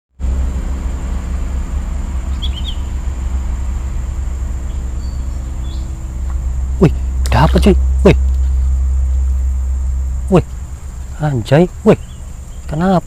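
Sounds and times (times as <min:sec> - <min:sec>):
steady low rumble: 0:00.1 - 0:13.0
faint hum: 0:00.2 - 0:13.0
bird chirps: 0:00.7 - 0:13.0.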